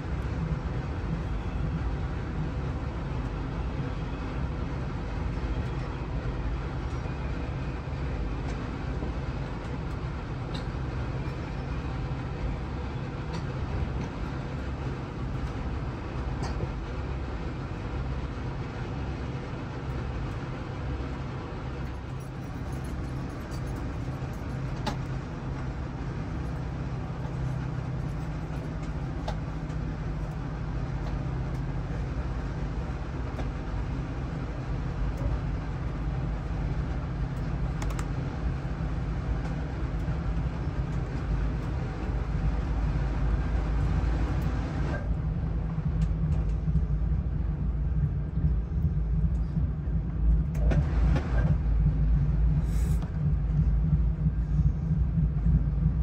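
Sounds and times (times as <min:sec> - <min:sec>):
vehicle rumbling in motion: 0:00.0 - 0:56.0.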